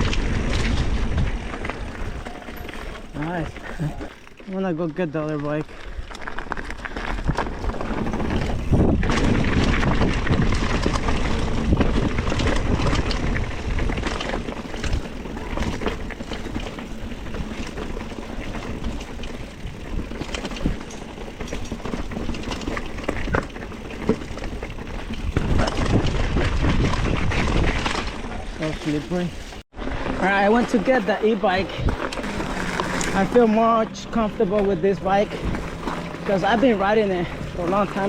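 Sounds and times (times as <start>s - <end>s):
bike rattling: 0.0s - 38.0s
bike tyres on dirt trail: 0.0s - 38.0s.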